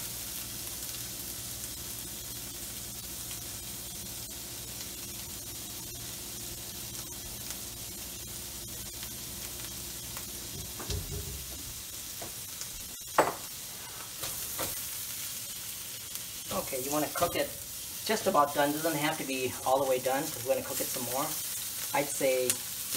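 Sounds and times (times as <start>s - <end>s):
shrimp sizzling in hot oil: 0.0s - 22.9s.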